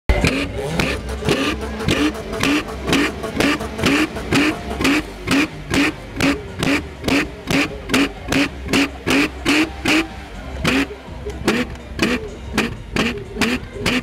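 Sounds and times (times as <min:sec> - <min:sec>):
car engine revving: 0:00.1 - 0:14.0
sharp exhaust bangs: 0:00.1 - 0:14.0.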